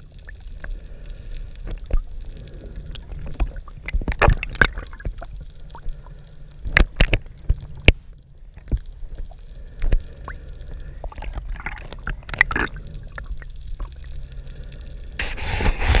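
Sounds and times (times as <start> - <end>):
muffled underwater rumble: 0.0 - 16.0
splashing and bubbling: 0.0 - 16.0.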